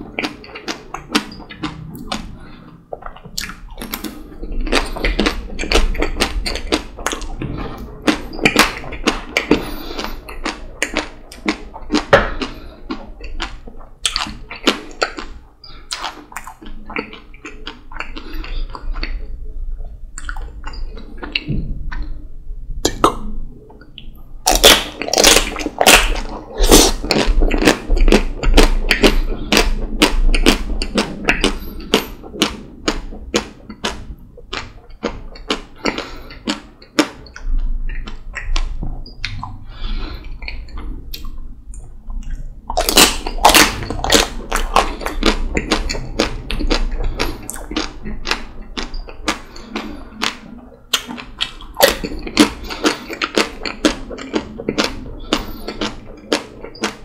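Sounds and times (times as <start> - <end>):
wet chewing and lip smacking: 0.0 - 22.2, 22.8 - 57.0.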